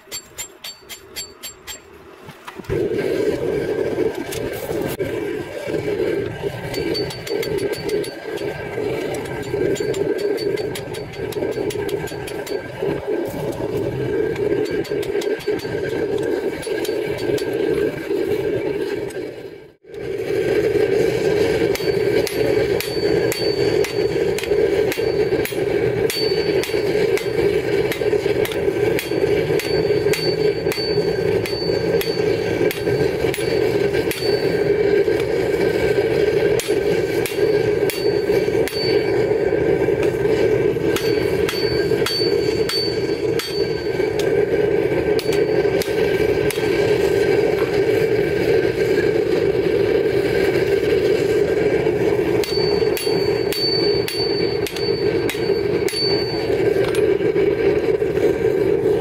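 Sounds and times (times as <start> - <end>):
hammer striking hot steel on anvil: 0.0 - 2.0, 6.3 - 13.6, 14.3 - 17.8, 21.0 - 58.2
loud steady drone: 2.6 - 59.0.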